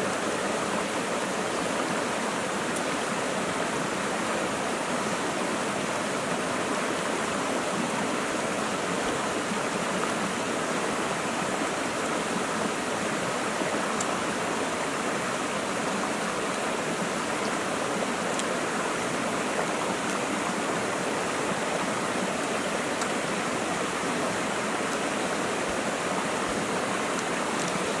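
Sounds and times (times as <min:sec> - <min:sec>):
stream flowing over rocks: 0:00.0 - 0:28.0.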